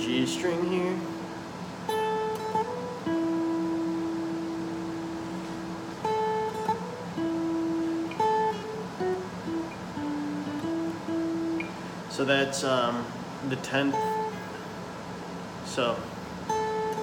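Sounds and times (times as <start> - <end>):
acoustic guitar plucked notes: 0.0 - 17.0.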